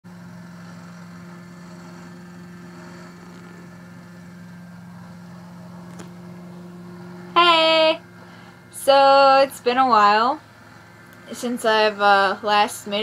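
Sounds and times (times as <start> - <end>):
low electrical hum: 0.1 - 13.0.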